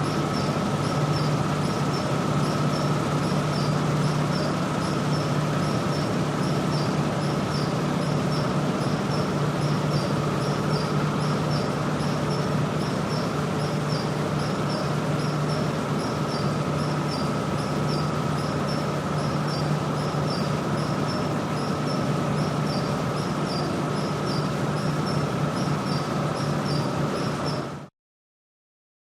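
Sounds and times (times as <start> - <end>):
high-pitched chirping: 0.0 - 27.7
industrial drone: 0.0 - 27.9.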